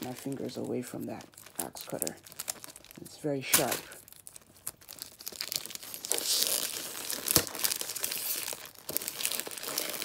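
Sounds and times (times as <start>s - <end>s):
paper wrapping rustling: 0.0s - 10.0s.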